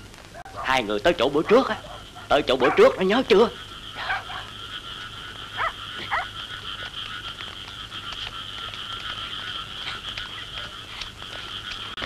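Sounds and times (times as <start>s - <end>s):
frogs and insects trilling: 0.3s - 12.0s.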